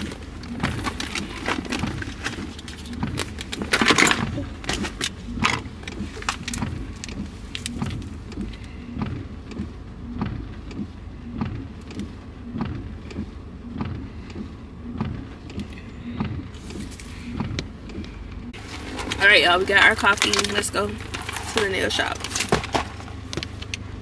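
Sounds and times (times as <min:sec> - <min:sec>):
phone and clothing rustling: 0:00.0 - 0:10.4, 0:12.0 - 0:24.0
low car cabin rumble: 0:00.0 - 0:24.0.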